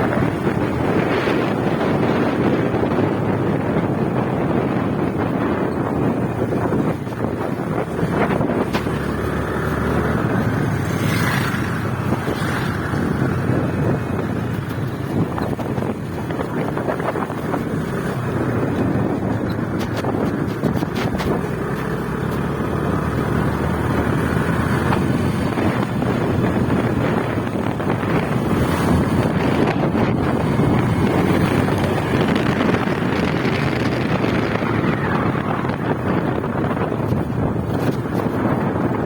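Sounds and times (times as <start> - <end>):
motorcycle engine running: 0.0 - 39.0
wind noise on microphone: 0.0 - 39.0.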